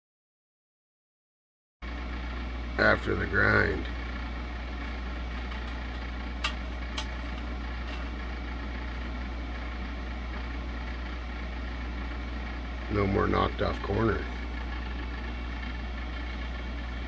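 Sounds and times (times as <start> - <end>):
motor humming: 1.9 - 17.0.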